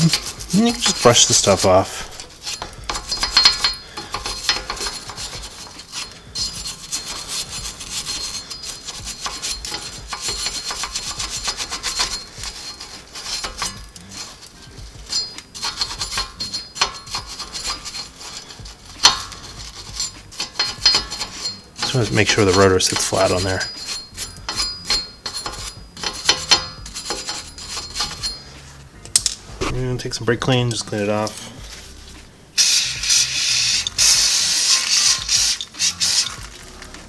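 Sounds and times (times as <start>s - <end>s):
wire brush scrubbing metal: 0.0s - 37.0s.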